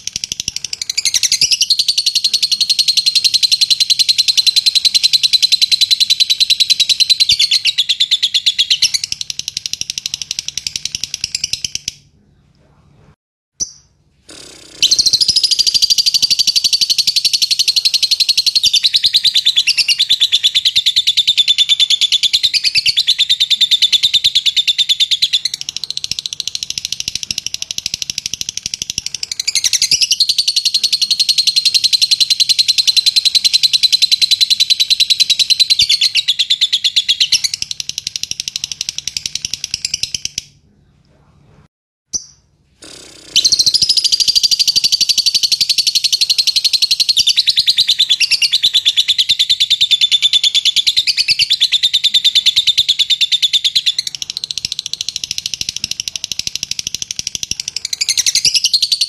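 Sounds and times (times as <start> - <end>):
bird chattering trill: 0.0 - 12.0, 13.6 - 40.5, 42.1 - 59.0.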